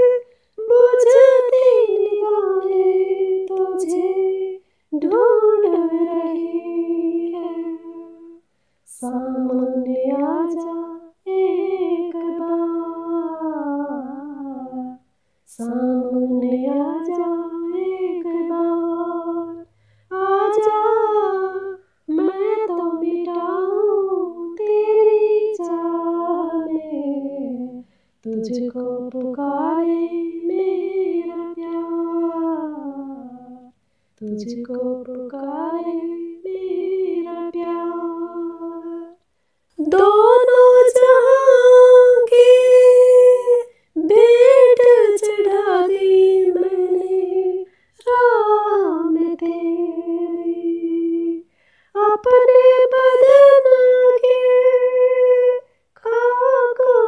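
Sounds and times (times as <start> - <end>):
woman singing unaccompanied: 0.0 - 39.2, 39.8 - 57.0.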